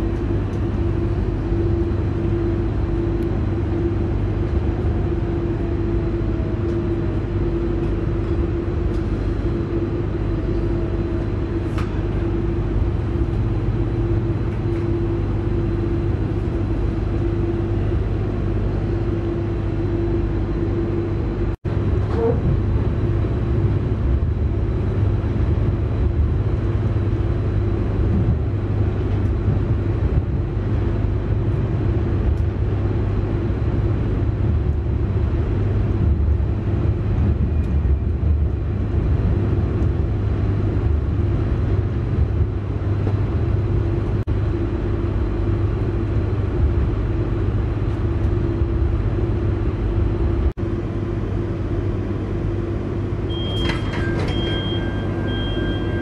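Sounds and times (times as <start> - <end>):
steady hum: 0.0 - 56.0
train interior rumble: 0.0 - 56.0.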